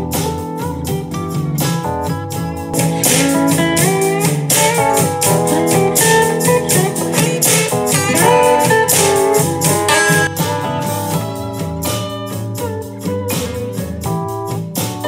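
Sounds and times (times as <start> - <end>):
blues guitar through small speaker: 0.0 - 15.0.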